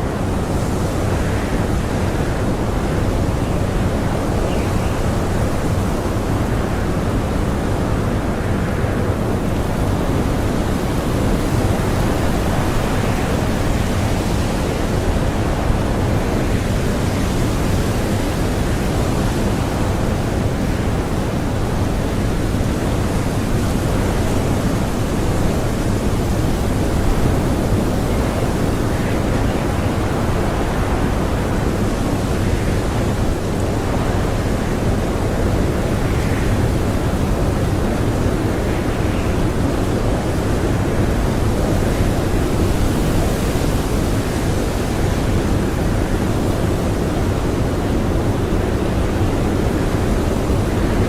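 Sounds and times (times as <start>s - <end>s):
strong blizzard wind: 0.0s - 51.0s.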